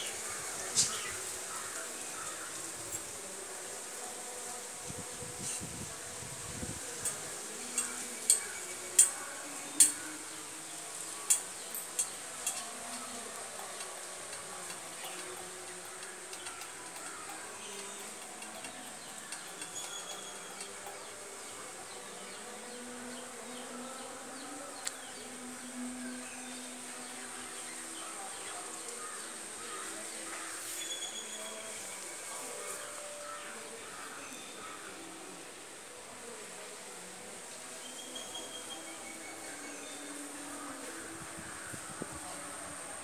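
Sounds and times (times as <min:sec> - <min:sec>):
insects buzzing: 0:00.0 - 0:43.0.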